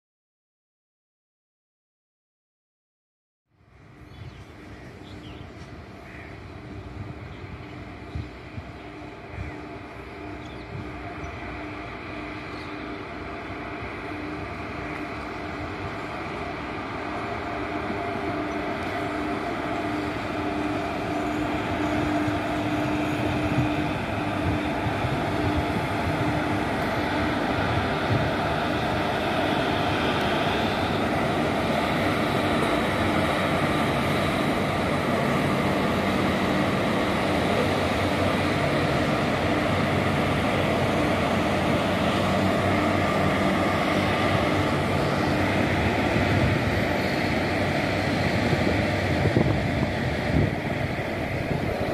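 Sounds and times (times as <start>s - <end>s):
train wheels rumbling on rails: 3.7s - 51.9s.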